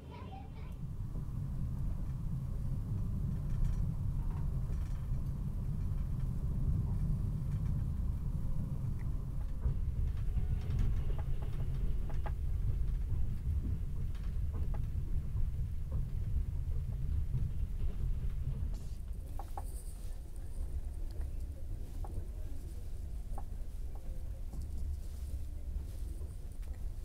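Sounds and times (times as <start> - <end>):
train car rumbling on rails: 0.0 - 27.0
faint clicks and rattles: 0.6 - 27.0.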